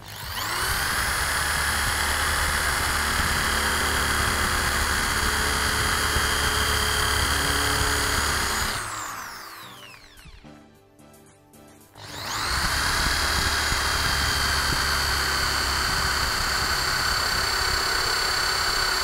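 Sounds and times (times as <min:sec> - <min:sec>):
electric drill drilling into steel: 0:00.0 - 0:10.4, 0:12.0 - 0:19.0.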